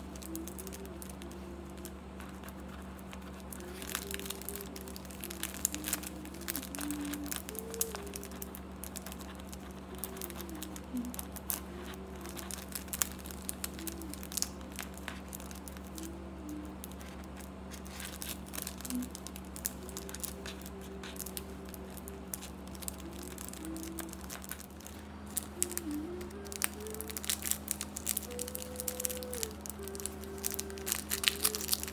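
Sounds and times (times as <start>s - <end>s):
low hum: 0.0s - 31.9s
plastic sheet crinkling: 0.0s - 31.9s.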